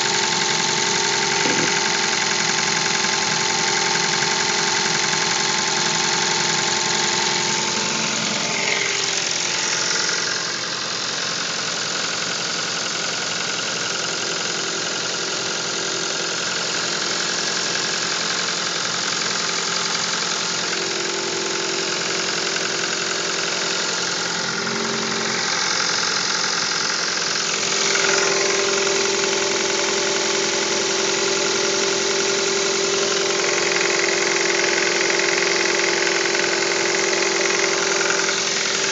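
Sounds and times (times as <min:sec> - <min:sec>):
cold car engine knocking: 0:00.0 - 0:38.9.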